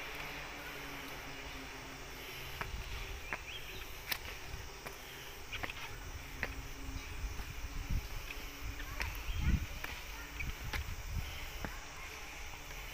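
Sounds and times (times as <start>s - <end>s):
footsteps on concrete steps: 0.0s - 12.9s
insects buzzing: 0.0s - 12.9s.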